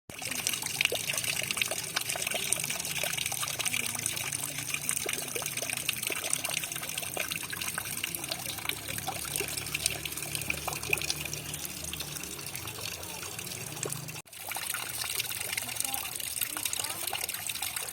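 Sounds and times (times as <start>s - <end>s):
water trickling and splashing: 0.1s - 17.9s.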